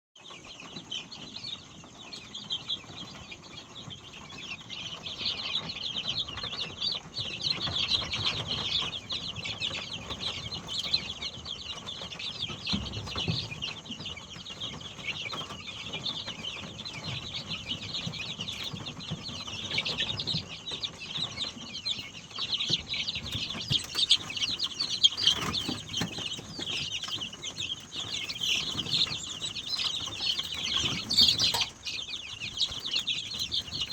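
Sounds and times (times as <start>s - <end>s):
chickens calling: 0.2s - 33.9s.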